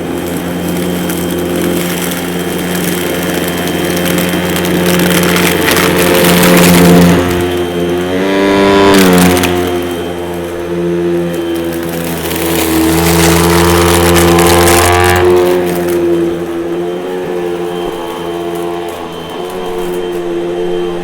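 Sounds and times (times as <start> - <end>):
vacuum cleaner motor whine: 0.0 - 21.0.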